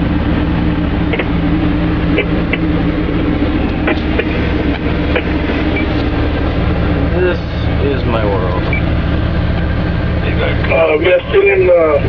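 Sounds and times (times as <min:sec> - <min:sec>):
truck machine hum: 0:00.0 - 0:12.0.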